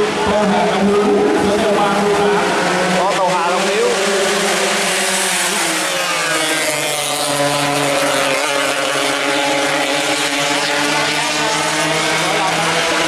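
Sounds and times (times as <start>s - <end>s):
racing motorcycles engine drone: 0.0s - 13.0s.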